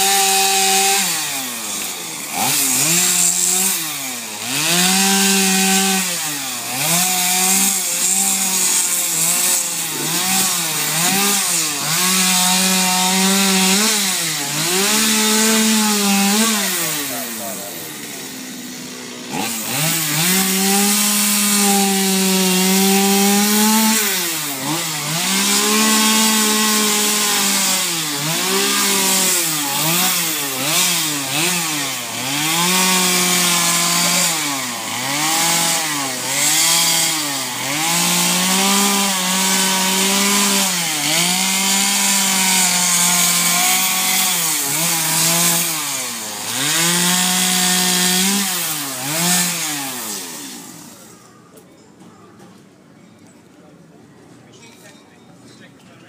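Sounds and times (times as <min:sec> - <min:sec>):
chainsaw engine revving: 0:00.0 - 0:51.3.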